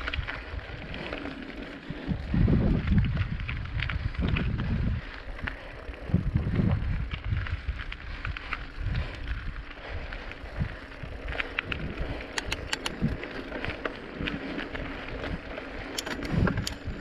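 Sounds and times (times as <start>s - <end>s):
bicycle rattling over asphalt: 0.0s - 17.0s
wind rumbling on microphone: 0.0s - 17.0s.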